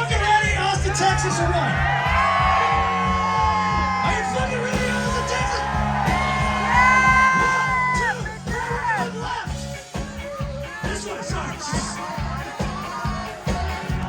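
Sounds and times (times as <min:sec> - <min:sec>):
live band music: 0:00.0 - 0:14.0.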